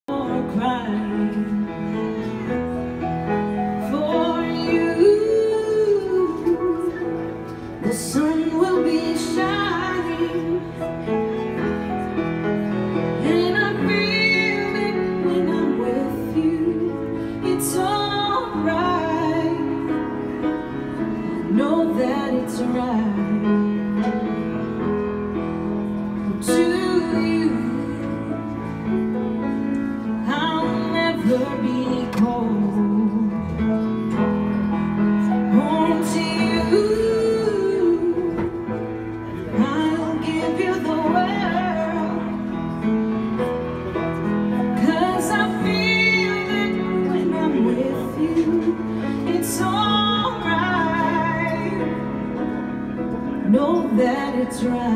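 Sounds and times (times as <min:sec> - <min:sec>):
grand piano: 0:00.0 - 0:54.9
woman singing a slow ballad: 0:00.1 - 0:02.5, 0:03.5 - 0:10.8, 0:13.2 - 0:24.0, 0:26.2 - 0:29.2, 0:30.0 - 0:34.4, 0:35.1 - 0:43.1, 0:44.6 - 0:54.9.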